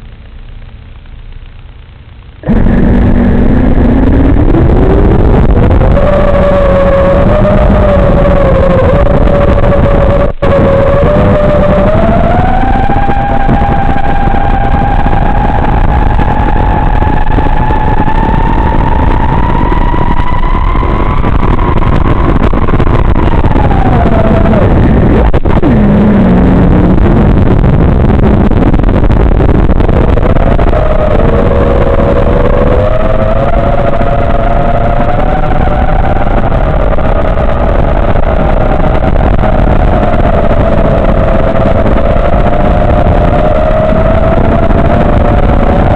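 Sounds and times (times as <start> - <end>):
heavy wind rush: 2.4 - 45.9.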